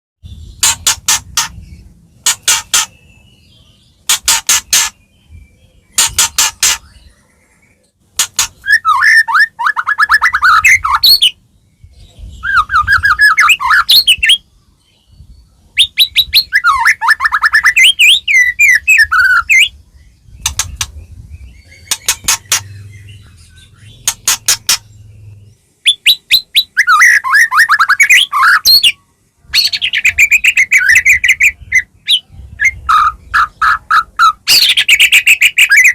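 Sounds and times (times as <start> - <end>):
songbird singing: 0.2 - 35.9.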